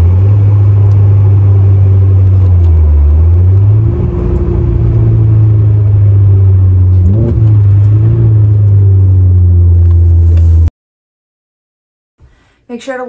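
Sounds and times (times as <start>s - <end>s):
car engine drone from inside cabin: 0.0s - 10.7s.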